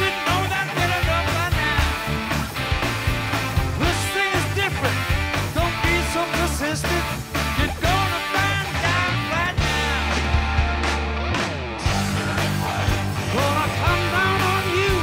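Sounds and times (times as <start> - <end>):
bass guitar: 0.0 - 15.0
drums: 0.0 - 15.0
electric guitar bending notes: 0.0 - 15.0.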